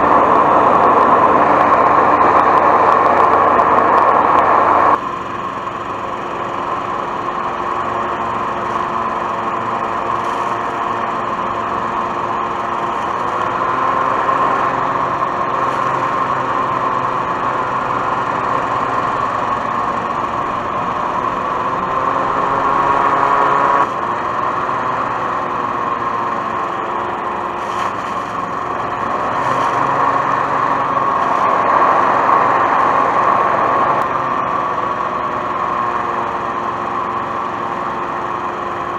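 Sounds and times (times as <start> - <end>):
hovercraft engine and fan running: 0.0 - 38.9.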